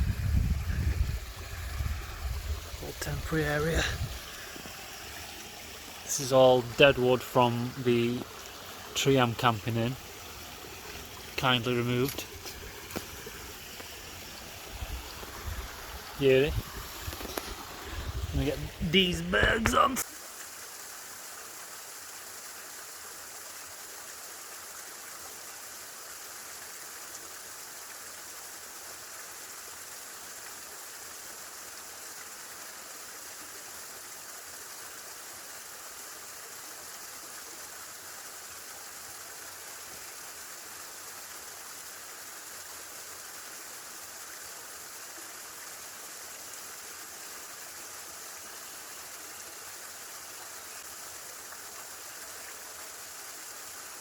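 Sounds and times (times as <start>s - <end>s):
stream water rushing: 0.0s - 29.0s, 35.2s - 54.0s.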